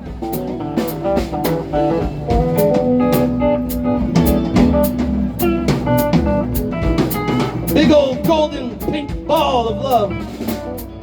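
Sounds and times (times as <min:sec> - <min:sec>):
drum cymbals: 0:00.0 - 0:11.0
live blues-rock band playing: 0:00.0 - 0:11.0.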